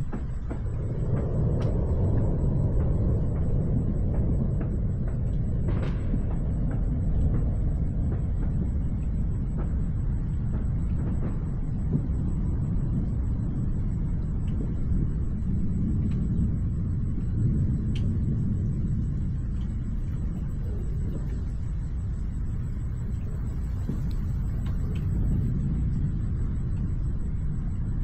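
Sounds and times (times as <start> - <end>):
distant thunder rumbling: 0.0 - 28.0
faint ticks: 0.0 - 28.0.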